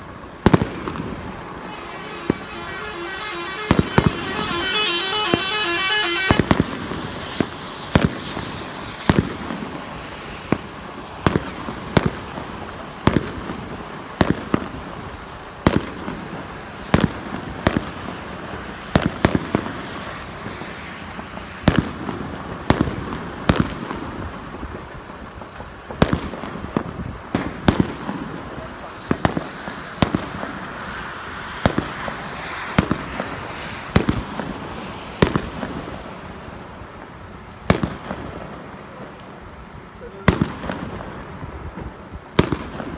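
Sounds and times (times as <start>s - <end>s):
fireworks bangs: 0.0s - 42.9s
rapid fireworks crackle: 0.0s - 42.9s.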